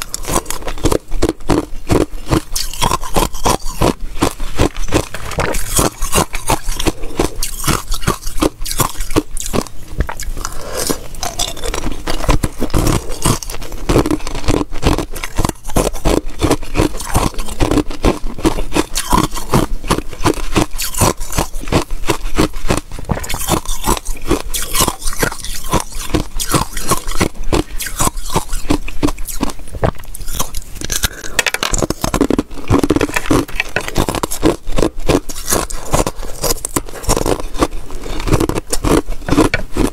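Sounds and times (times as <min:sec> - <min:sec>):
crunching and chewing ice: 0:00.0 - 0:39.9
ice cubes clicking and scraping: 0:00.0 - 0:39.9.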